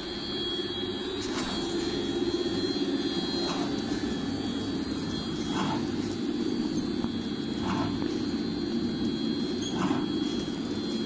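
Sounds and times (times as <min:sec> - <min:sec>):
faint high whine: 0:00.0 - 0:11.0
machine mechanical drone: 0:00.0 - 0:11.0.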